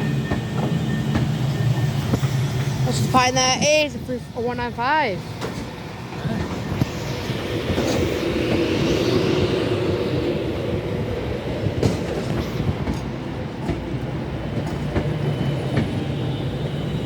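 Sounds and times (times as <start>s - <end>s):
train running hum: 0.0s - 17.0s.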